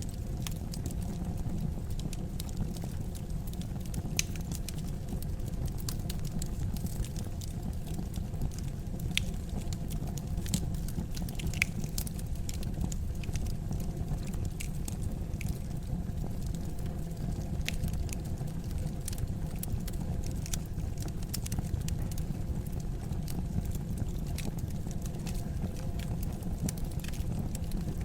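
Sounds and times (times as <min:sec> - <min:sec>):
low rumble of flames: 0:00.0 - 0:28.0
fire pops and snaps: 0:00.1 - 0:28.0.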